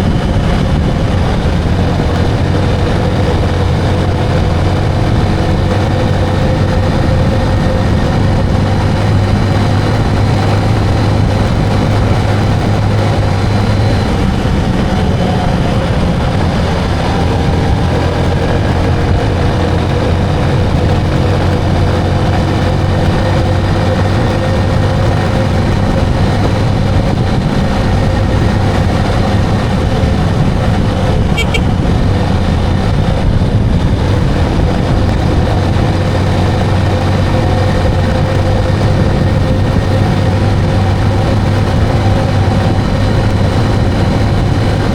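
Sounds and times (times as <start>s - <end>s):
motorcycle engine running: 0.0s - 44.9s
road noise: 0.0s - 44.9s.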